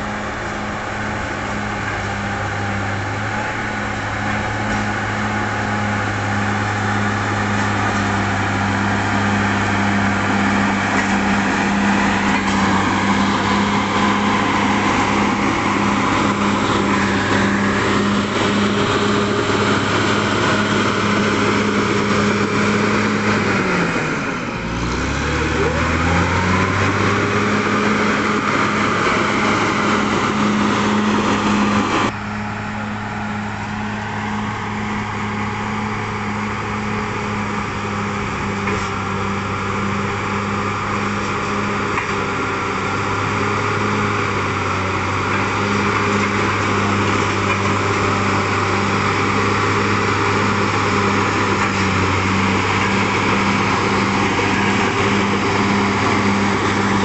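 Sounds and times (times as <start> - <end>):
blade pushing earth: 0.0 - 32.6, 33.3 - 57.0
bulldozer diesel engine under load: 0.0 - 57.0.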